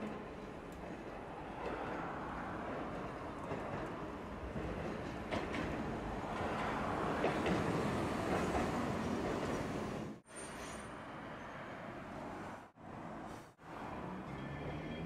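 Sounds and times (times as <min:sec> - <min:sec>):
streetcar rumbling on rails: 0:00.0 - 0:15.0.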